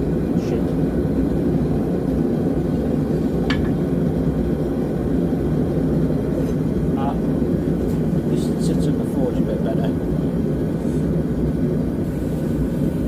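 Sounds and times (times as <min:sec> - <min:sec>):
forge low rumble: 0:00.0 - 0:13.0.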